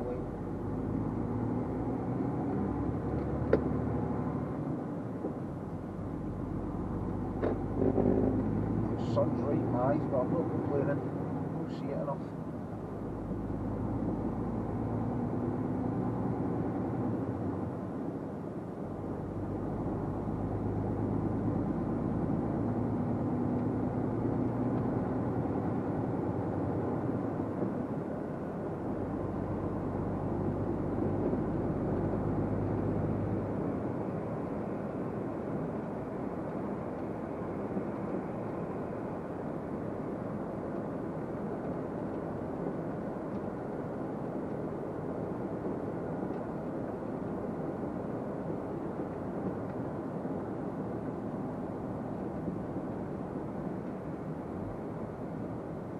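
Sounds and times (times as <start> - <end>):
road noise: 0.0 - 55.9.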